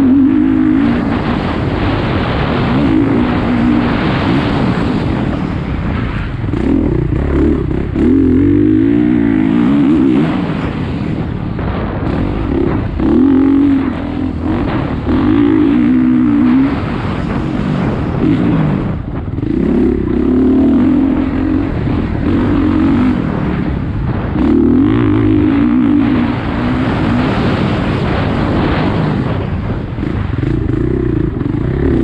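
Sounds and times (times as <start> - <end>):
steady rushing noise: 0.0 - 32.0
vehicle engine running hard: 0.0 - 32.0.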